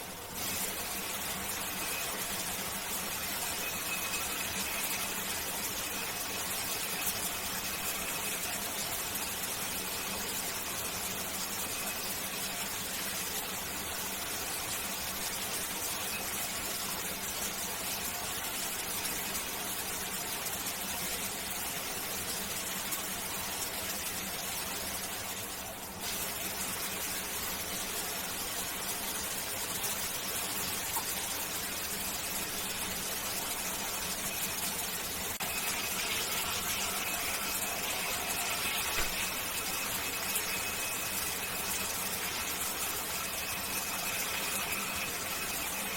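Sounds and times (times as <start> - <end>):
shower water running: 0.0 - 45.9.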